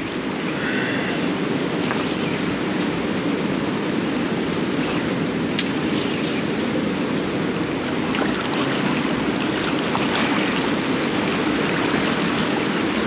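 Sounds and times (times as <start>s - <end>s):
seawater lapping around pilings: 0.0s - 13.0s.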